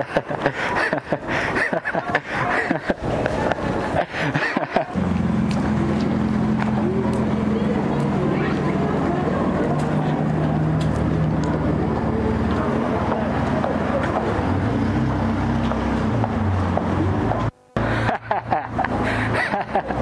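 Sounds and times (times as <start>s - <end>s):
traffic: 0.0s - 20.0s
vehicle engine hum: 0.0s - 20.0s.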